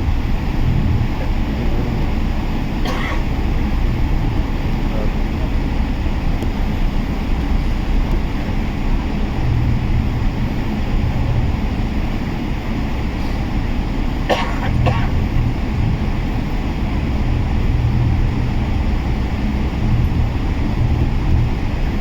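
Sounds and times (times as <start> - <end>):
jet engine rumble in cabin: 0.0 - 22.0.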